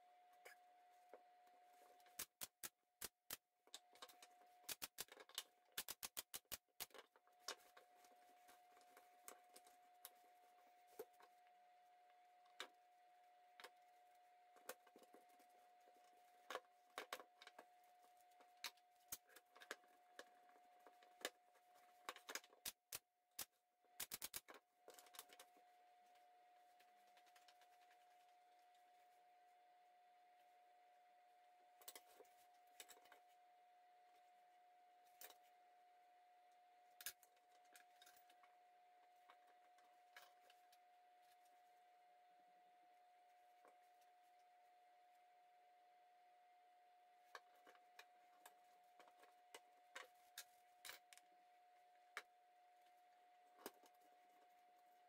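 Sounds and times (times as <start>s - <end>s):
faint steady tone: 0.0s - 2.3s, 6.8s - 22.6s, 23.4s - 55.0s.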